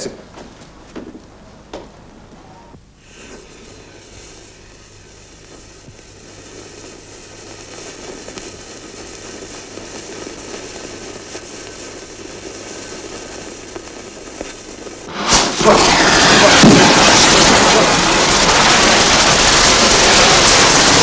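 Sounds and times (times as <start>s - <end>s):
firework fizzing and crackling: 0.0s - 21.0s
firework going off: 0.9s - 21.0s.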